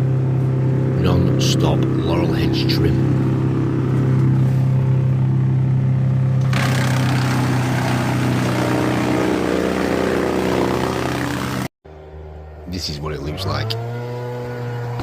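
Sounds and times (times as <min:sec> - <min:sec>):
wood chipper engine running: 0:00.0 - 0:15.0.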